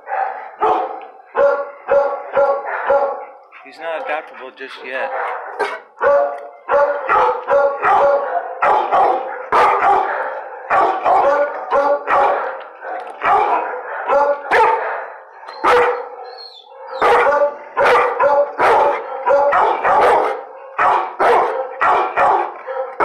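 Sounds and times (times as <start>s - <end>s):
dog barking: 0.0s - 23.0s.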